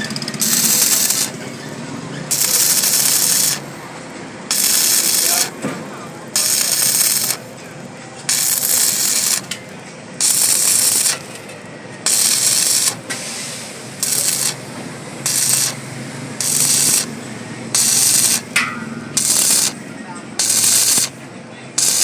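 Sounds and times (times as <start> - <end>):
welding arc crackling: 0.0 - 3.8, 4.5 - 7.6, 8.3 - 11.5, 12.1 - 13.2, 13.8 - 21.2, 21.8 - 22.0.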